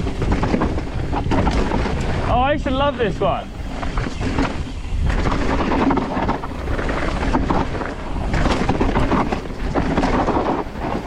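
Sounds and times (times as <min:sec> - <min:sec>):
bike tyres rolling over dirt: 0:00.0 - 0:11.0
wind buffeting microphone: 0:00.0 - 0:11.0.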